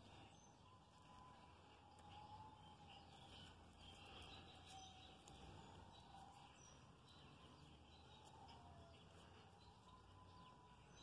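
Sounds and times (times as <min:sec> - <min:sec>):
faint high chirps: 0:00.0 - 0:11.0.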